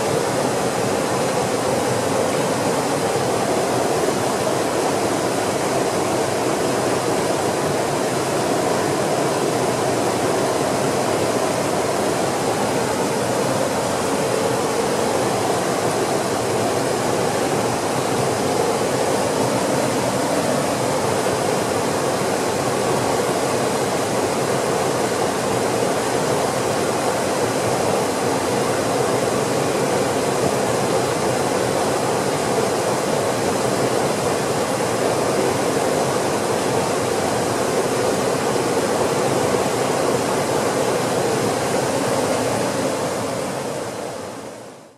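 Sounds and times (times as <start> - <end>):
water rushing over rocks: 0.0 - 44.9.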